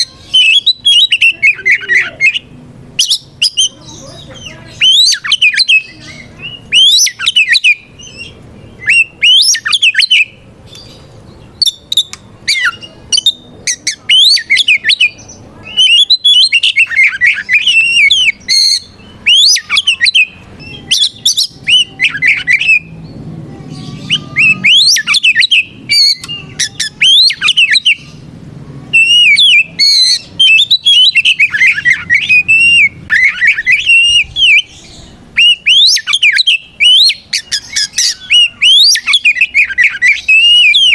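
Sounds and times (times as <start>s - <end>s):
bird singing whistles: 0.3s - 3.7s, 4.7s - 10.4s, 11.6s - 23.0s, 23.9s - 28.1s, 28.9s - 40.9s.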